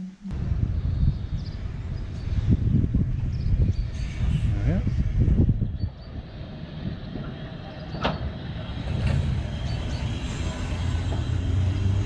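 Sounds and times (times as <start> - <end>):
tram rumbling on rails: 0.3 - 12.0.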